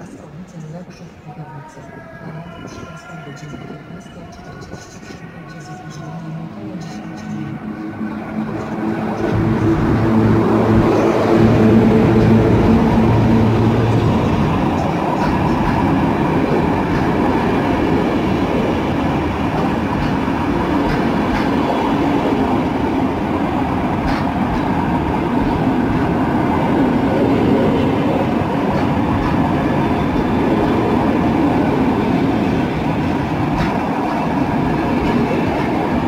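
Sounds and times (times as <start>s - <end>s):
train wheels rumbling on rails: 2.3s - 36.0s.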